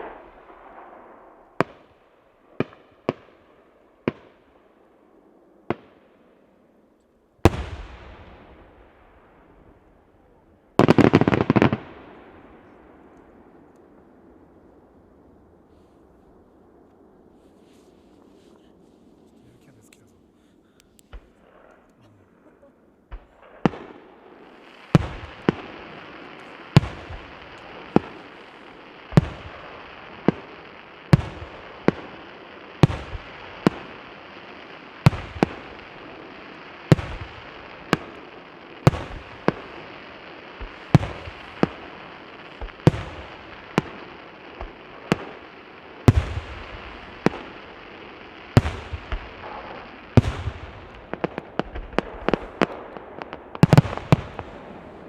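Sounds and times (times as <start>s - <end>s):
fireworks bangs with echo: 0.0s - 4.6s, 7.4s - 14.7s, 21.1s - 55.0s
background hiss: 0.0s - 55.0s.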